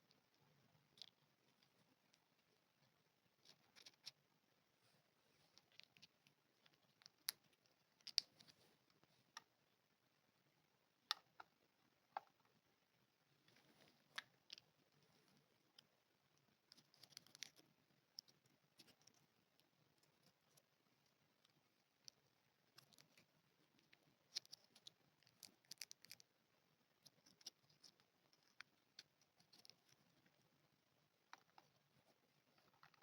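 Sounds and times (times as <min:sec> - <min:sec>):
soft rustling: 0:00.0 - 0:09.8, 0:13.2 - 0:33.0.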